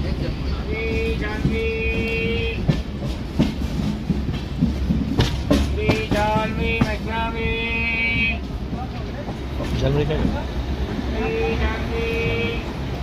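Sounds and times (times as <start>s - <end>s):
train rumble: 0.0s - 13.0s
train wheels clicking over rail joints: 0.0s - 13.0s.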